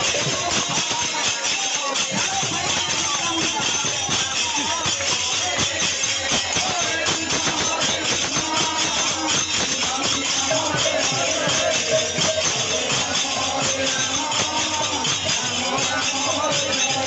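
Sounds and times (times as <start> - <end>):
steady percussion beat: 0.0 - 17.0
voices chanting: 0.0 - 17.0.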